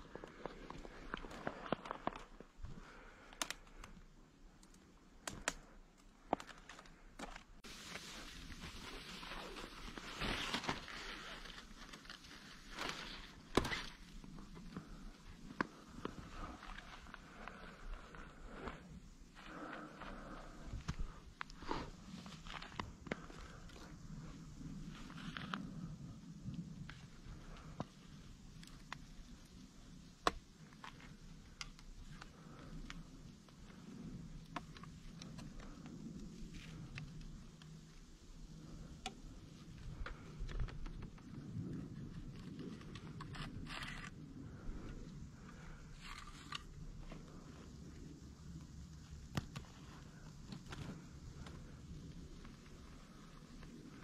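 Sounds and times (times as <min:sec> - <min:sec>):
low rumble of wind: 0:00.0 - 0:54.0.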